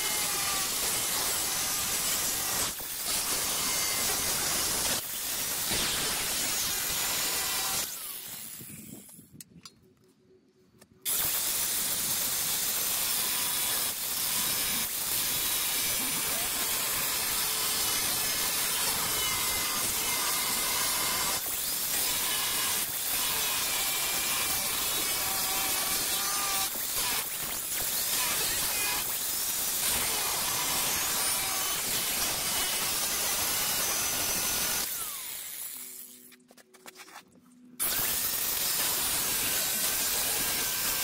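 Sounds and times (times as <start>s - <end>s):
angle grinder cutting steel: 0.0s - 9.1s, 11.1s - 36.4s, 37.8s - 41.0s.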